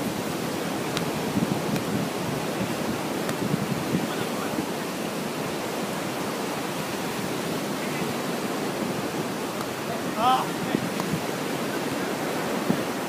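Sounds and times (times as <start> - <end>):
surf rushing: 0.0 - 13.0
wind: 0.0 - 13.0.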